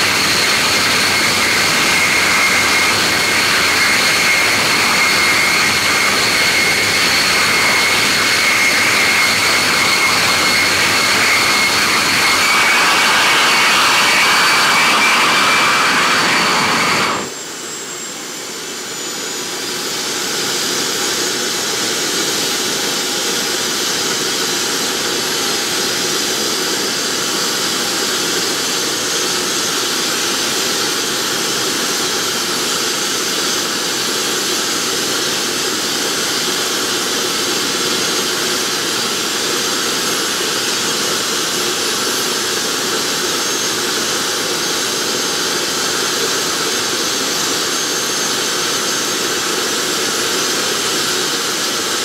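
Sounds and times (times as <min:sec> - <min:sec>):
turbojet engine roaring: 0:00.0 - 0:52.0.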